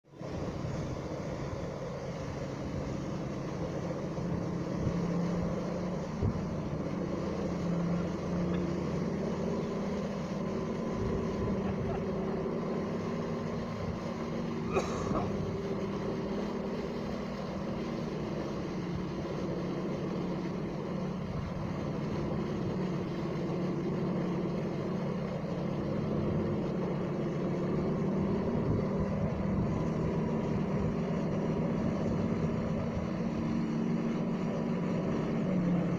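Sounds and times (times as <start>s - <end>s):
engine-like drone: 0.0s - 35.9s.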